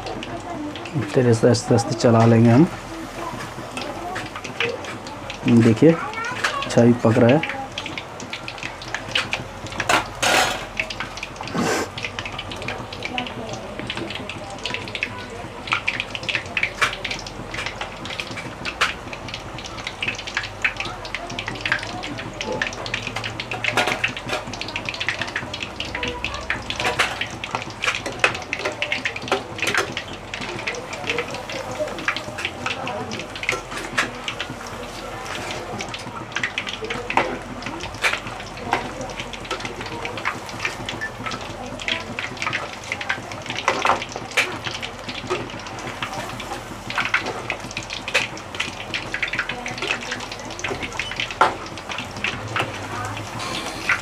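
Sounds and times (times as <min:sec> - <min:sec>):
chicken frying in oil: 0:00.0 - 0:54.0.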